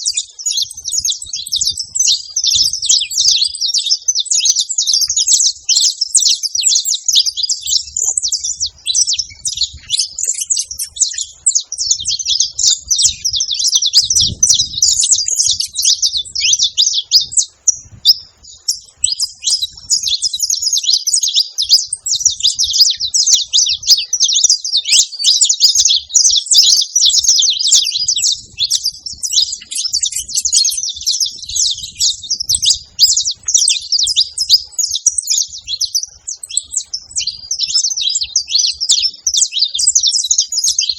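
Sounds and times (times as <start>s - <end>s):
flock of finches chirping: 0.0s - 40.9s.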